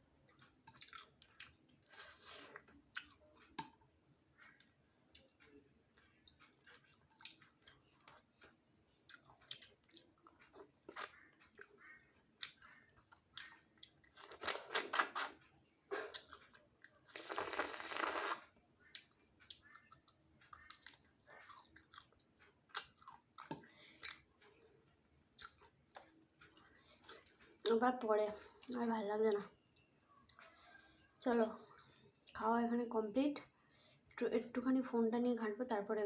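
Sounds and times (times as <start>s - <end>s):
person chewing food: 0.2s - 27.7s, 29.8s - 32.4s.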